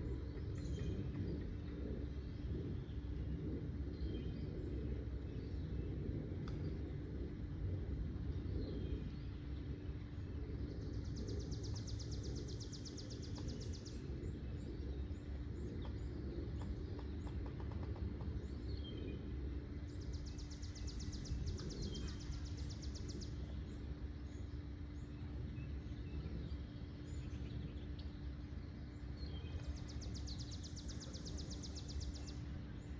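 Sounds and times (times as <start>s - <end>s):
faint hum: 0.0s - 32.9s
low rumble: 0.0s - 32.9s.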